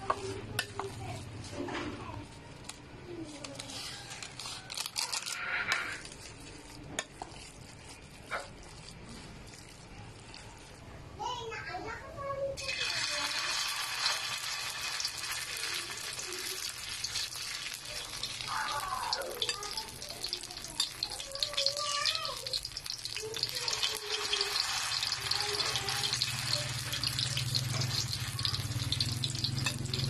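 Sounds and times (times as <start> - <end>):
batter frying in hot oil: 0.0 - 11.4, 12.6 - 30.0.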